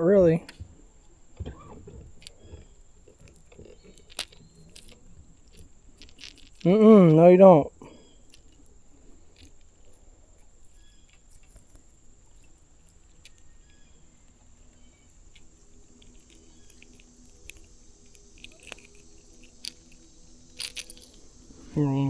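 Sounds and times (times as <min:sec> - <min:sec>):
faint low hum: 0:00.0 - 0:22.0
handling clicks and rustles: 0:00.0 - 0:22.0.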